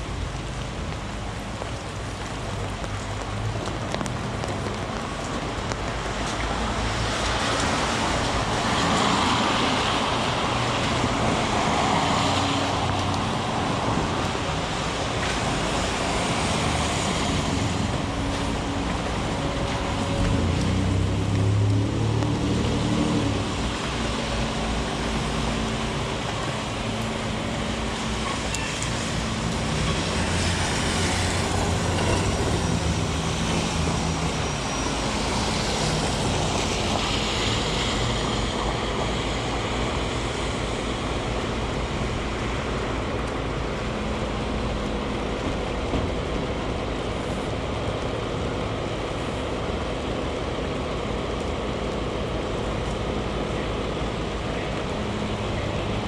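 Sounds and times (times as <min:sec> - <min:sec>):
heavy rain on street: 0:00.0 - 0:56.0
traffic on wet road: 0:00.0 - 0:56.0.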